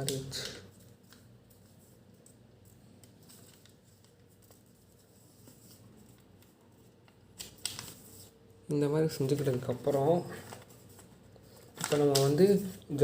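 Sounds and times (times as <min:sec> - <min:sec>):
paper rustling and creasing: 0:00.0 - 0:08.4, 0:09.1 - 0:13.0.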